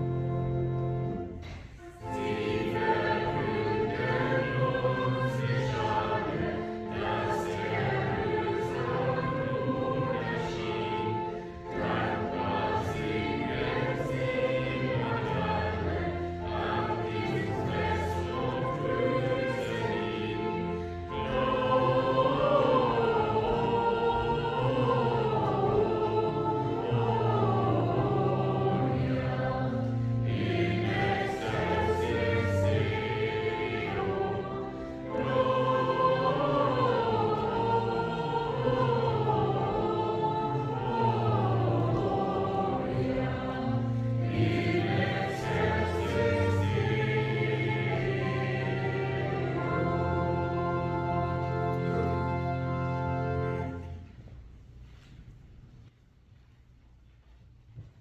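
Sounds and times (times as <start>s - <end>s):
choir singing: 0.0s - 54.0s
sustained accompaniment: 0.0s - 54.3s.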